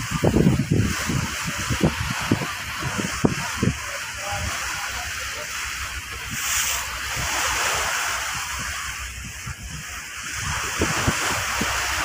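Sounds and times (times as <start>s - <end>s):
sea water rushing and splashing: 0.0s - 12.0s
wind gusting on microphone: 0.0s - 12.0s.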